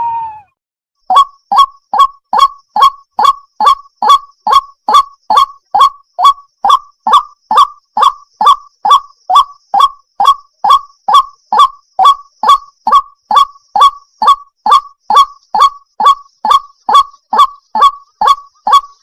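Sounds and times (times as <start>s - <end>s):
water hen calling: 0.0s - 0.5s, 1.1s - 19.0s.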